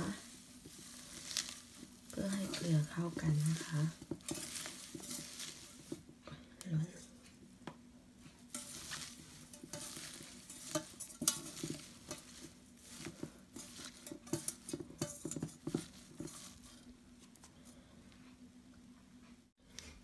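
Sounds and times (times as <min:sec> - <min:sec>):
hands kneading leafy shoots: 0:00.0 - 0:07.6, 0:08.2 - 0:17.9.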